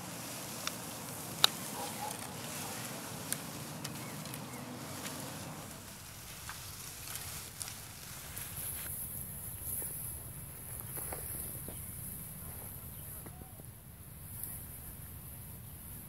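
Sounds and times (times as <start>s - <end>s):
light rustling: 0.0s - 13.7s.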